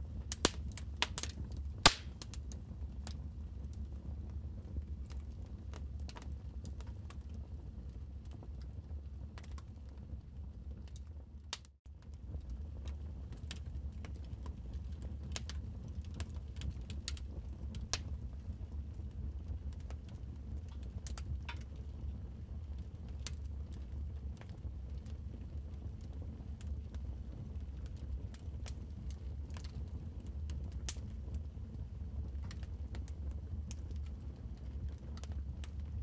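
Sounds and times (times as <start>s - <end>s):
low steady rumble: 0.0s - 36.0s
wood fire crackling: 0.0s - 36.0s.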